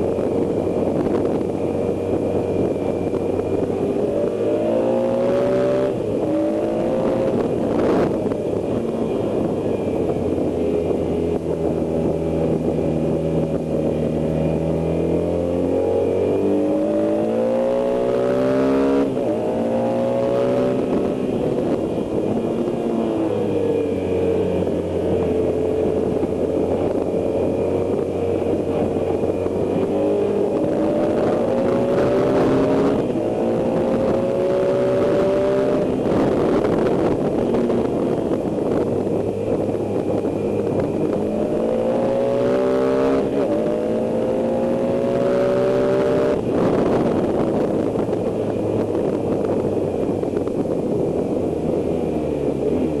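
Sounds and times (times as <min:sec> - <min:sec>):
wind rush: 0:00.0 - 0:53.0.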